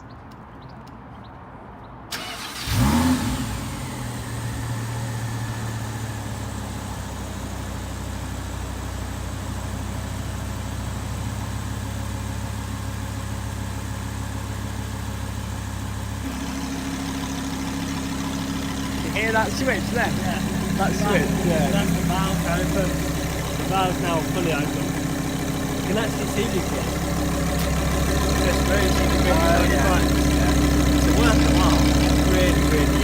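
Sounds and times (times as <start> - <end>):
car engine starting and idling: 2.1 - 33.0.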